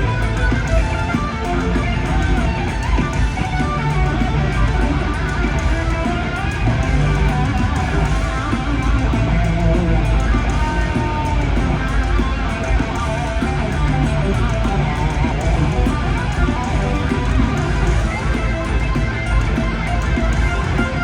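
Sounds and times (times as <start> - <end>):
band backing with bass and drums: 0.0 - 21.0
electric guitar solo: 0.0 - 21.0.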